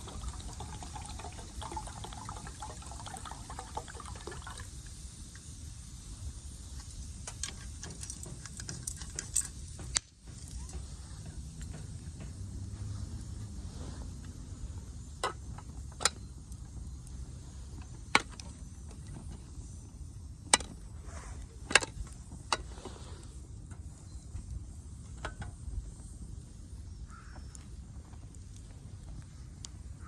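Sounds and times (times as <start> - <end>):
wood fire crackling and popping: 0.0 - 13.4, 14.0 - 30.0.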